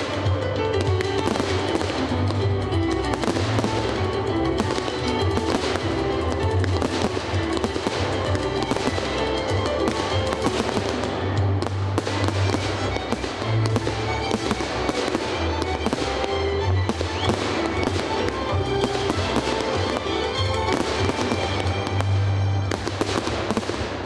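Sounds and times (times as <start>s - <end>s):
firework shells bursting and crackling: 0.0s - 24.0s
music: 0.0s - 24.0s.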